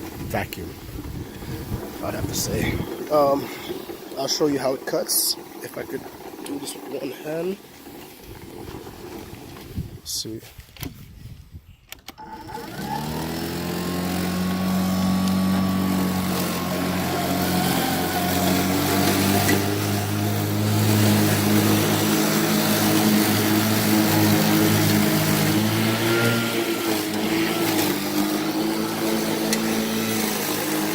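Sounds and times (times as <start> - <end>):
electric lawn mower whirring: 0.0 - 10.1, 11.9 - 30.9.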